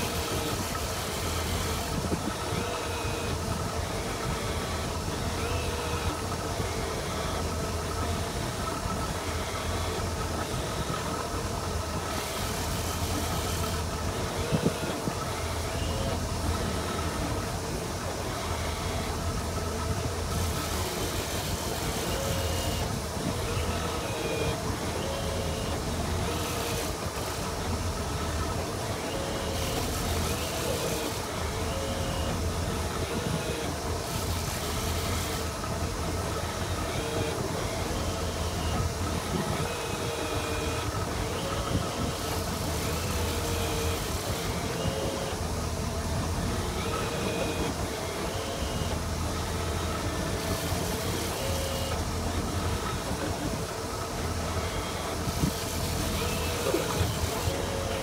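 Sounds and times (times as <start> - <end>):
boat engine drone: 0.0 - 58.0.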